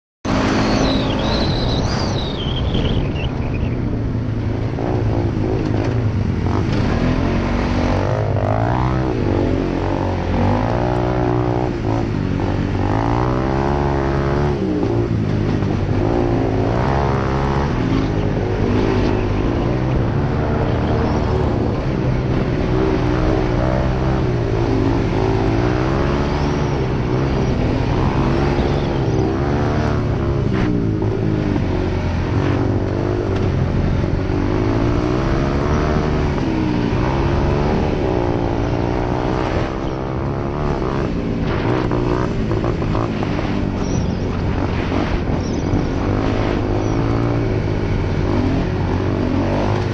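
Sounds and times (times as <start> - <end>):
atv engine revving: 0.3 - 49.9.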